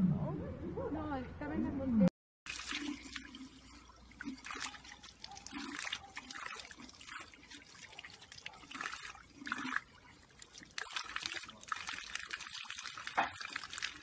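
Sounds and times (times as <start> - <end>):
water trickling and splashing: 2.4 - 14.0.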